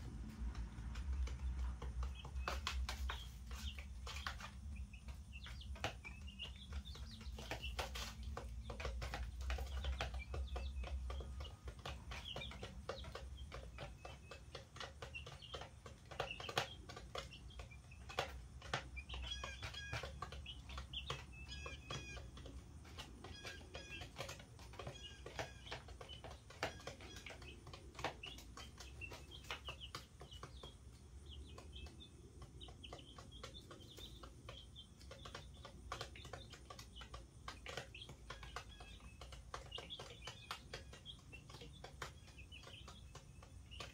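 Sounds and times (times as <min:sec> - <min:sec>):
chicks peeping: 0:00.0 - 0:43.9
sharp ticks and taps: 0:00.0 - 0:43.9.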